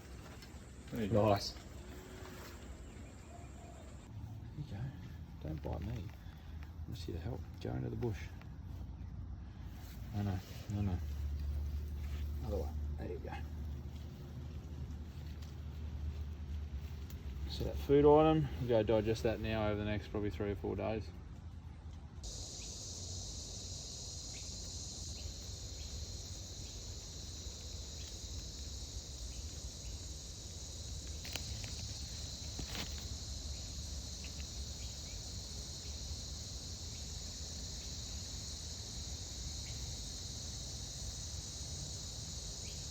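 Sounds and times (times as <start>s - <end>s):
high-pitched insect chorus: 0.0s - 4.1s, 4.7s - 14.3s, 22.2s - 42.9s.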